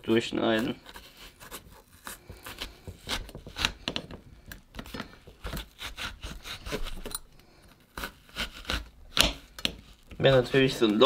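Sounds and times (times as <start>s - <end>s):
knife scraping through apple: 0.0s - 11.0s.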